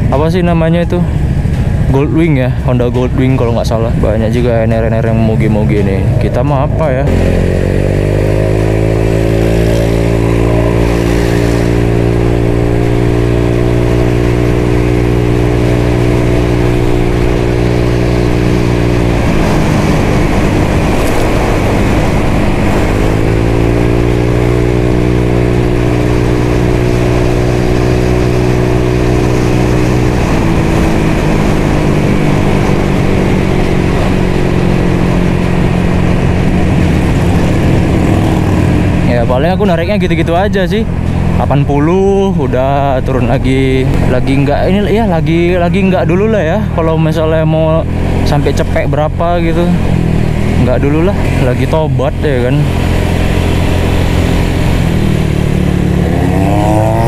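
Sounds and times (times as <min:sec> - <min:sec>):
wind rush: 0:00.0 - 0:46.0
scooter engine: 0:07.1 - 0:57.0.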